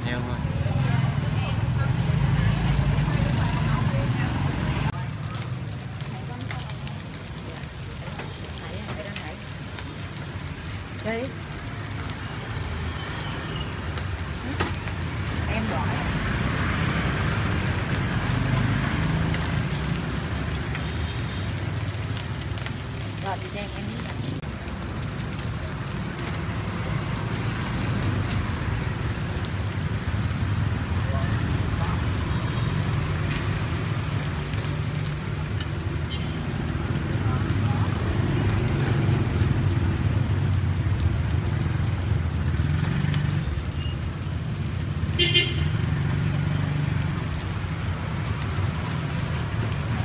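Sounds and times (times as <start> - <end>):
motorbike and car engines passing: 0.0 - 50.0
rice cakes sizzling in oil: 1.0 - 50.0.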